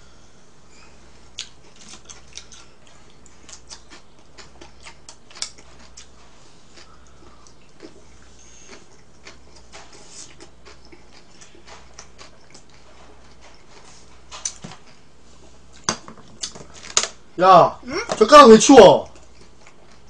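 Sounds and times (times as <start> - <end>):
chewing: 1.2 - 16.8, 19.0 - 20.0.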